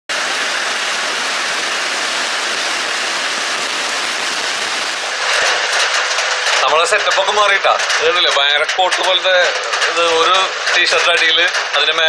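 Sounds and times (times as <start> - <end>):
heavy rain on pond water: 0.0 - 12.0.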